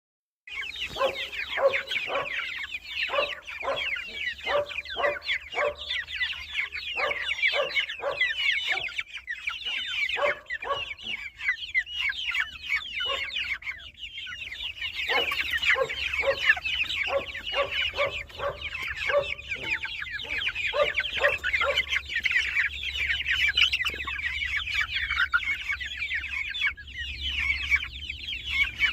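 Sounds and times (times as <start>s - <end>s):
chickens clucking: 0.5s - 28.9s
high-pitched chirping: 0.5s - 28.9s.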